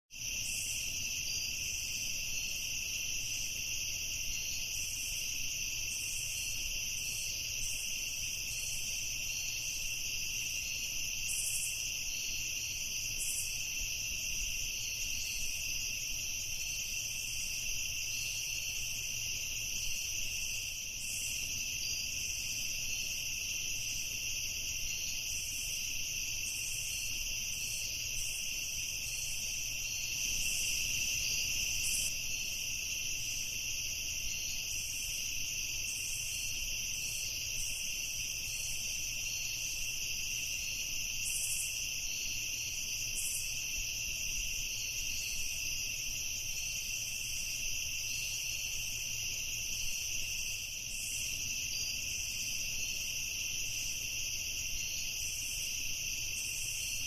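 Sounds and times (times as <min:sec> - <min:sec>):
night insects chirring: 0:00.1 - 0:57.0.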